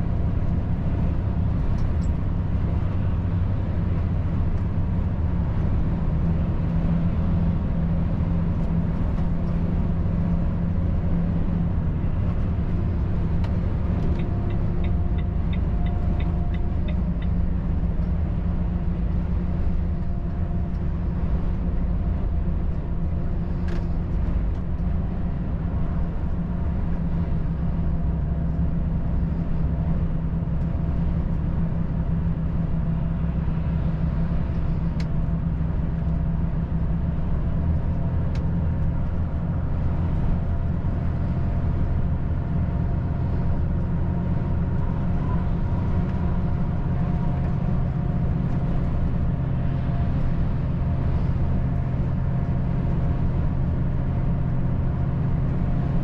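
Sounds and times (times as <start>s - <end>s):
road rumble: 0.0s - 56.0s
truck diesel engine drone: 0.0s - 56.0s.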